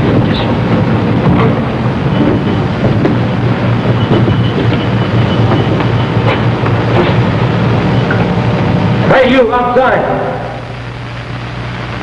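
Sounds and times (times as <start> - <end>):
low hum: 0.0 - 12.0
steady rumbling noise: 0.0 - 12.0.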